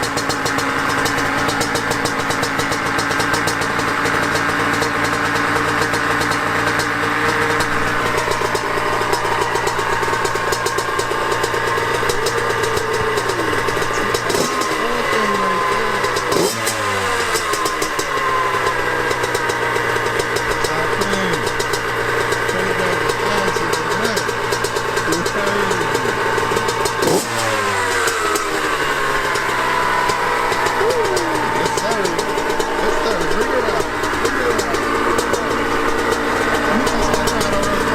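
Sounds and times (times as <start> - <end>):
dirt bike engine idling: 0.0 - 37.9
engine throttle blips: 0.0 - 37.9.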